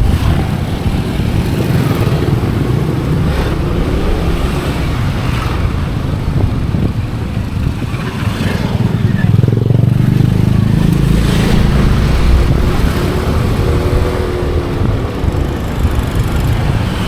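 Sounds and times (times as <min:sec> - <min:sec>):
rushing noise: 0:00.0 - 0:17.0
vehicle engine running steadily: 0:00.0 - 0:17.0.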